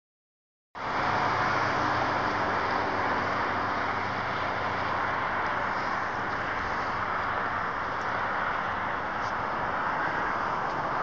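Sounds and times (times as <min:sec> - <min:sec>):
motorway traffic rushing: 0:00.8 - 0:11.0.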